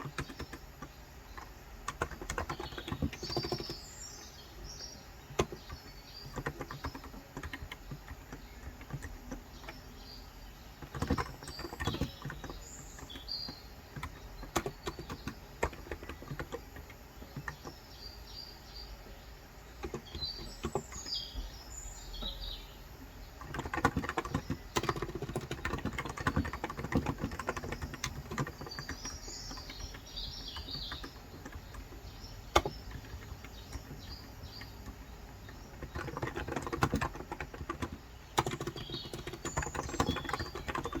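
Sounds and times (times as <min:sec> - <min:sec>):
keyboard typing: 0:00.0 - 0:17.8, 0:19.8 - 0:21.5, 0:23.4 - 0:41.0
small birds chirping: 0:00.0 - 0:41.0.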